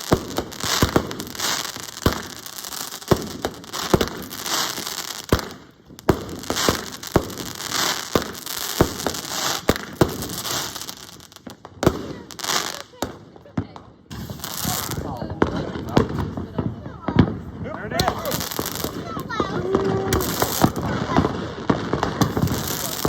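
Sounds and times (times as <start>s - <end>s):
fireworks bangs: 0.0s - 23.0s
fireworks crackling hiss: 0.0s - 23.0s.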